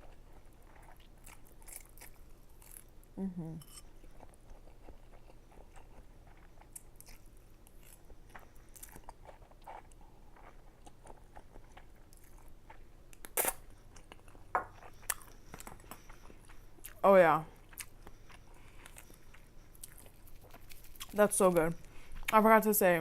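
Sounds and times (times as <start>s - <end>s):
chewing noodles: 0.0s - 2.9s, 4.0s - 21.2s.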